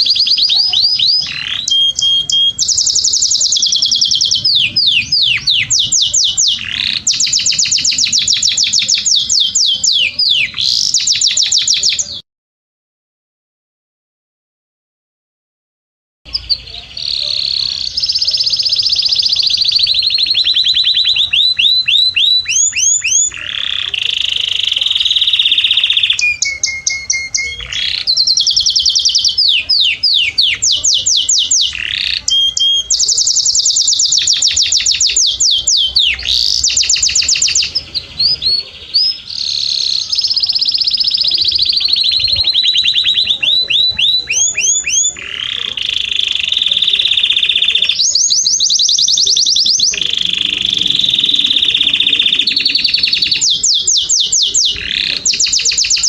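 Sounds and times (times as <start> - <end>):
canary singing trills: 0.0 - 12.2, 16.3 - 56.0.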